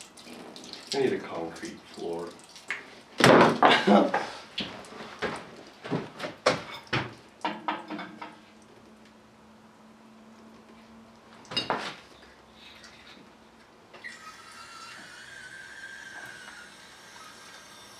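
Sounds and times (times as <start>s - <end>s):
faint steady hum: 0.0s - 17.9s.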